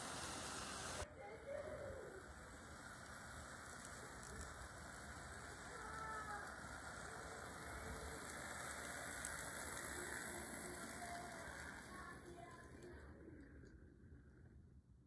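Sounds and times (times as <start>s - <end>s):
model train rolling on track: 0.0s - 14.9s.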